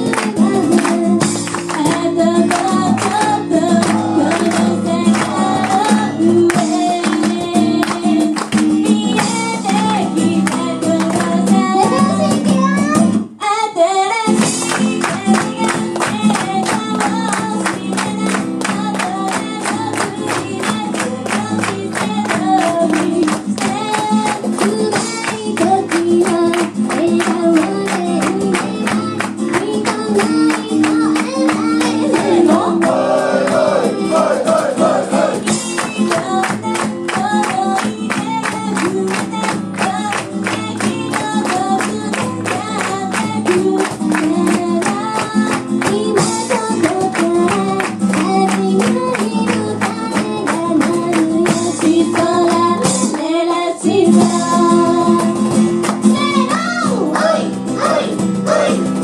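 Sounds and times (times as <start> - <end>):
women singing: 0.0 - 12.3, 13.4 - 58.8
strummed acoustic guitar: 0.0 - 13.4, 14.3 - 59.0.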